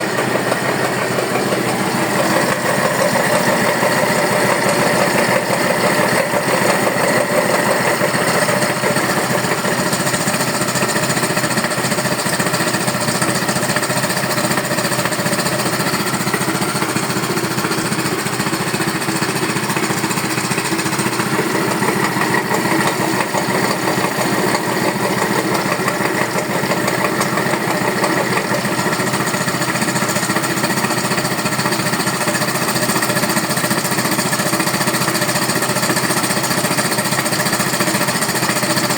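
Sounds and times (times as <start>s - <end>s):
fast engine clatter: 0.0s - 38.9s
scooter engine running: 0.0s - 38.9s.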